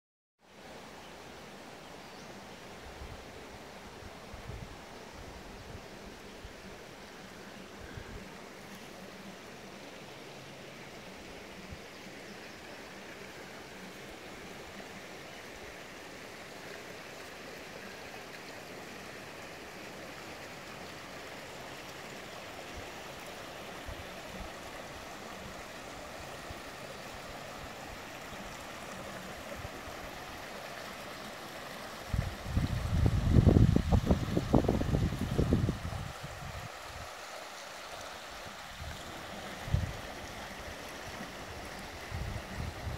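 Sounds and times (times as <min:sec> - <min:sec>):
creek water flowing over rocks: 0:00.4 - 0:42.9.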